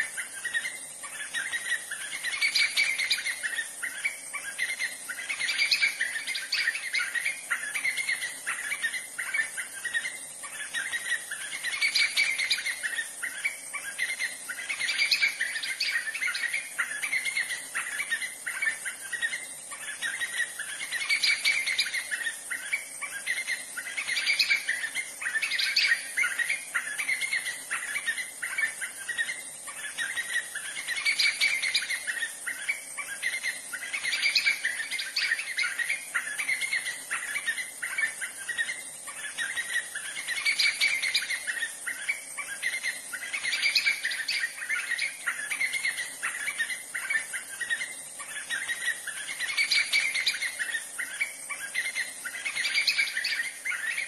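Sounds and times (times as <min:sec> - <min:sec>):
bird singing rapid notes: 0:00.0 - 0:54.0.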